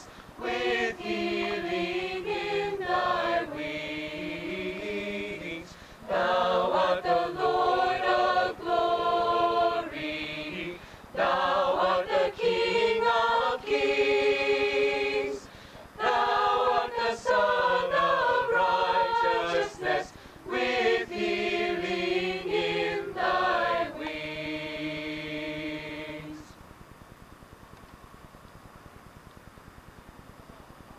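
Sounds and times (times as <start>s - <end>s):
mixed choir singing unaccompanied: 0.0s - 26.6s.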